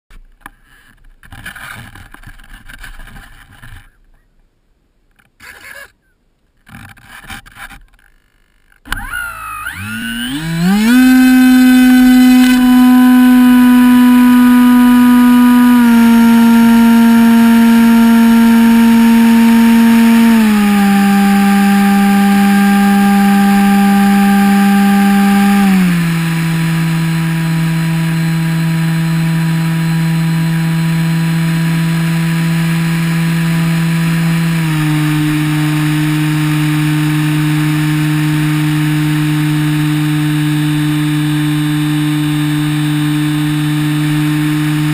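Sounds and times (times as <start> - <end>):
electric motor and propeller whine: 8.9 - 44.9.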